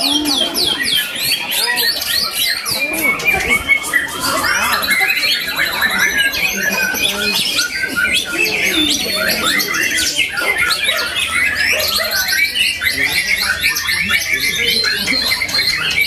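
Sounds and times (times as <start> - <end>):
bird singing fast chirps: 0.0 - 16.0.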